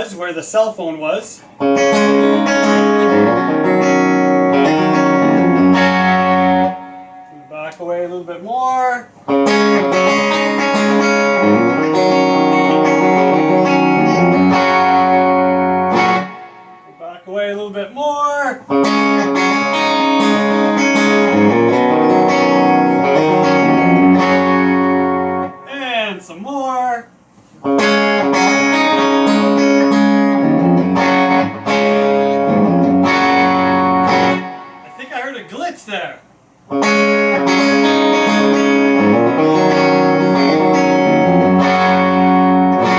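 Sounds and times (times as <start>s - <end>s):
electric guitar chords: 1.4s - 8.2s, 9.1s - 17.2s, 18.6s - 25.7s, 27.5s - 35.2s, 36.6s - 42.9s.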